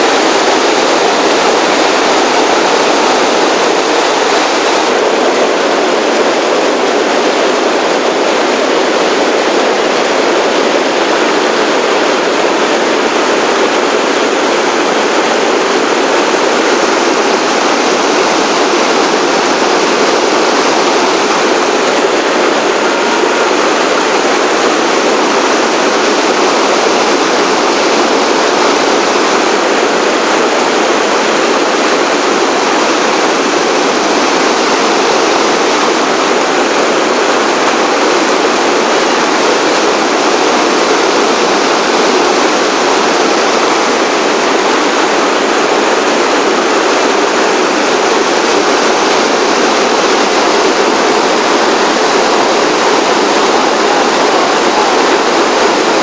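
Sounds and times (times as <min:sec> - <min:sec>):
rushing river rapids: 0:00.0 - 0:56.0.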